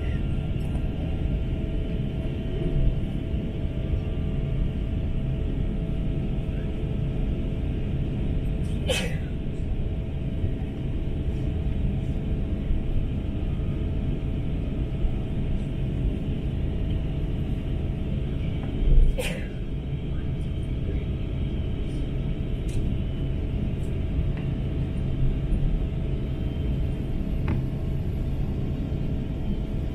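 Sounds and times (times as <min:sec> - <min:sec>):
aircraft cabin engine rumble: 0:00.0 - 0:29.9.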